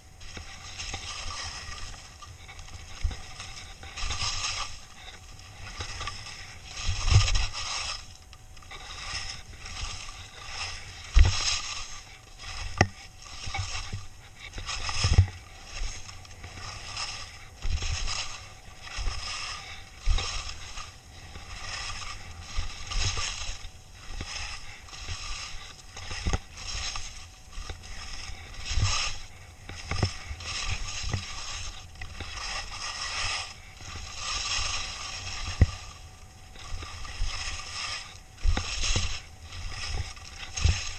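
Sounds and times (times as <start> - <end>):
skis scraping on snow: 0.0 - 40.9
skis thudding on moguls: 0.0 - 40.9.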